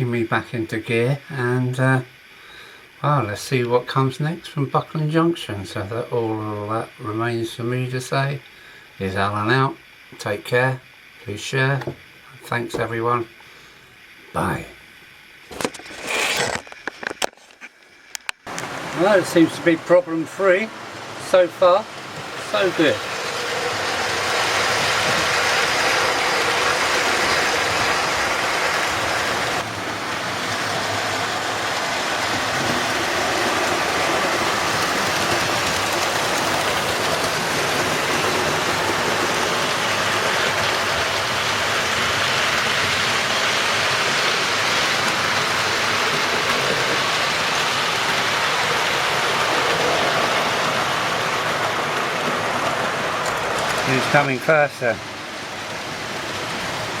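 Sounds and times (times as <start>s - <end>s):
model trains whirring on rails: 0.0s - 57.0s.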